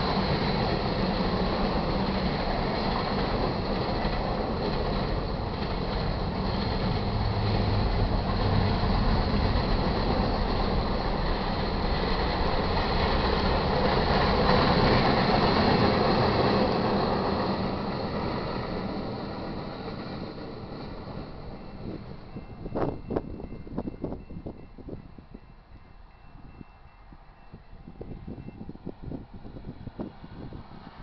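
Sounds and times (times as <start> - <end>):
freight cars rolling on rails: 0.0 - 31.0.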